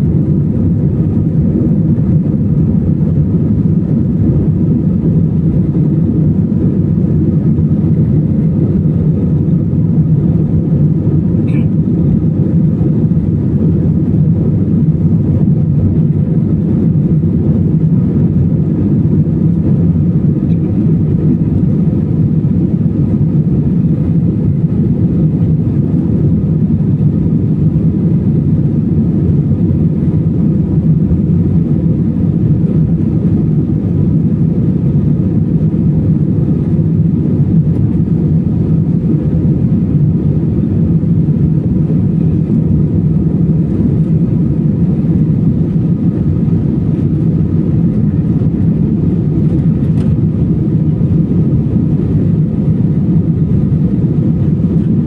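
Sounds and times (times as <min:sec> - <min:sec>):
airplane engines and airflow roar: 0:00.0 - 0:55.0.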